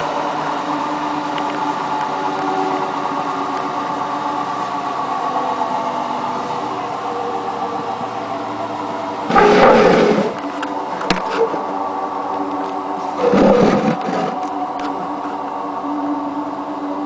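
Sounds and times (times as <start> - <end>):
washing machine whining: 0.0 - 17.0.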